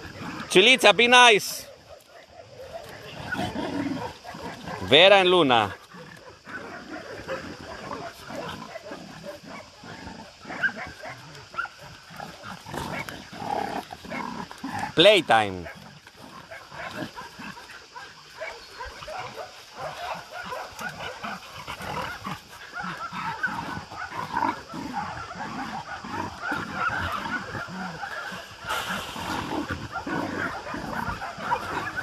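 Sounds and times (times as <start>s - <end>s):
dogs play-fighting: 0.0s - 0.6s, 1.7s - 4.9s, 5.6s - 15.0s, 15.6s - 32.0s.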